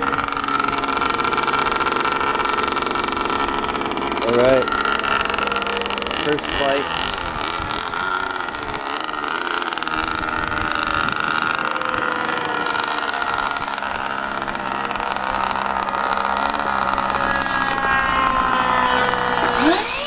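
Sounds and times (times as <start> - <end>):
model airplane engine idling: 0.0 - 20.0
rising tones: 0.0 - 20.0.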